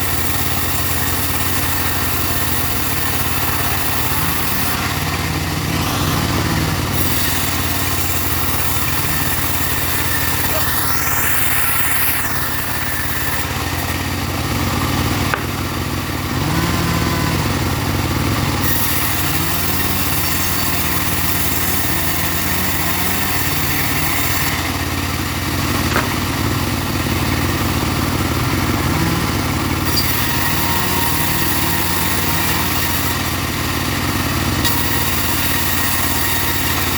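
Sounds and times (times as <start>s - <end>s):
small engine running under load: 0.0s - 36.9s.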